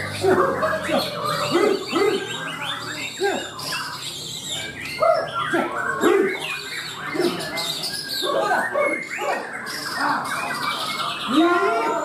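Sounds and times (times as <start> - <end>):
bird chattering trills: 0.0 - 12.0
birds singing whistled phrases: 0.0 - 12.0.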